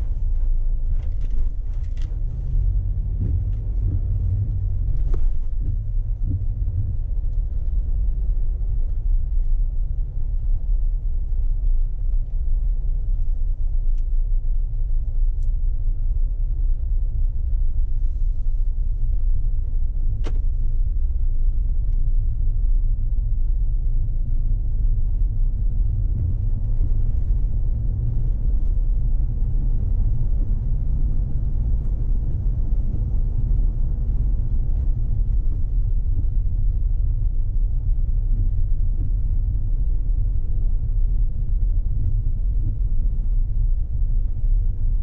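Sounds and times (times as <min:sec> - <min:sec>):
car driving rumble: 0:00.0 - 0:45.0.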